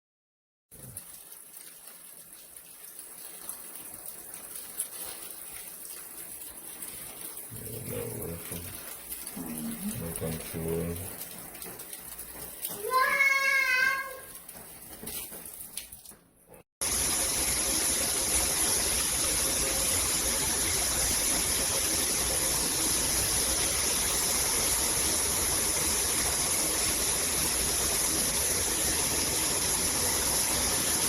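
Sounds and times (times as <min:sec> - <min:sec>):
water spraying from shower head: 0:00.8 - 0:16.2, 0:16.8 - 0:31.0.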